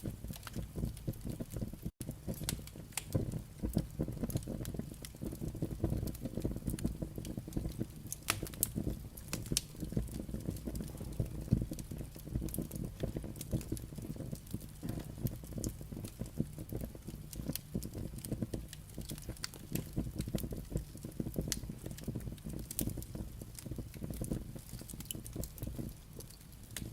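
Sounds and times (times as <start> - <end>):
firewood crackling and popping: 0.0 - 26.9
flames rushing: 0.0 - 26.9.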